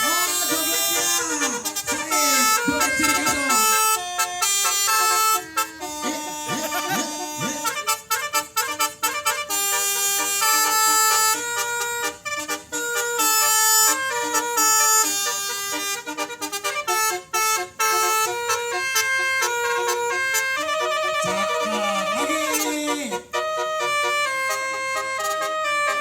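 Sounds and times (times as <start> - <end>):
multi-tone horn playing a tune: 0.0 - 26.0.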